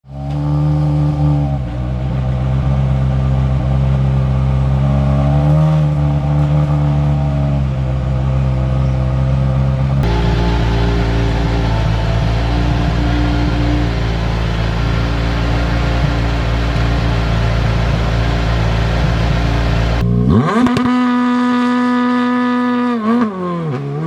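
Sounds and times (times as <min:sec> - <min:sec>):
rally car engine running: 0:00.0 - 0:24.0.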